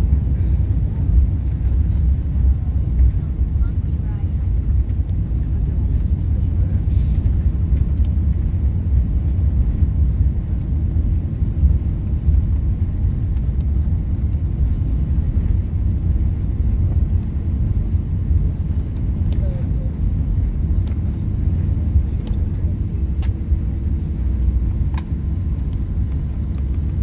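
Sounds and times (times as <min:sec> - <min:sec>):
airliner cabin engine rumble: 0:00.0 - 0:27.0.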